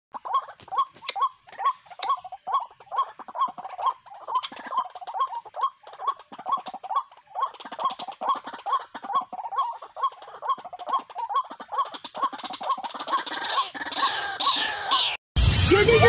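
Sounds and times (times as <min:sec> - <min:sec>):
waterhens calling: 0:00.2 - 0:15.2.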